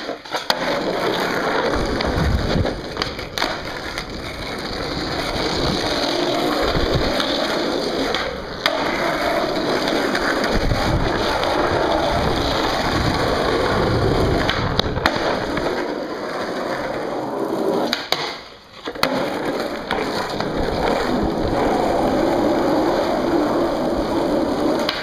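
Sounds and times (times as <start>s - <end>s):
skateboard wheels rolling on concrete: 0.0s - 25.0s.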